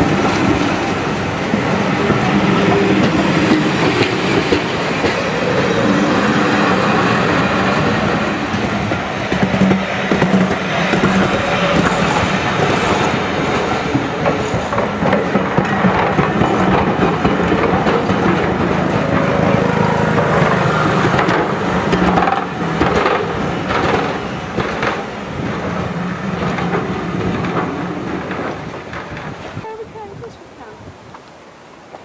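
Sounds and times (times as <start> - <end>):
train wheels rumbling on rail: 0.0 - 32.0
wheels clicking over rail joints: 0.0 - 32.0.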